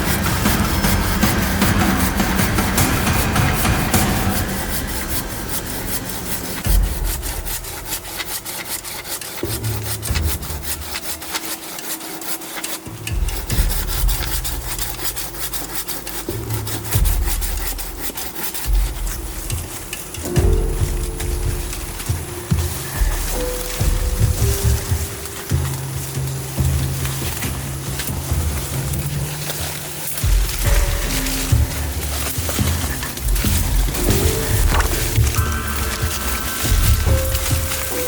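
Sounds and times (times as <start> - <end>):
heavy low bumps: 0.0 - 11.3, 12.9 - 38.0
scraping strokes on wood: 0.0 - 38.0.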